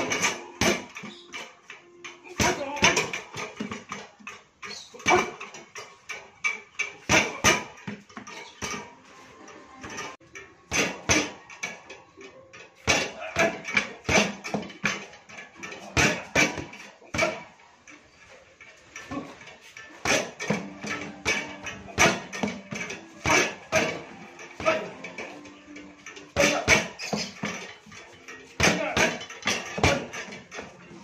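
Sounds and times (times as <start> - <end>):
metallic spring clatter: 0.0 - 31.0.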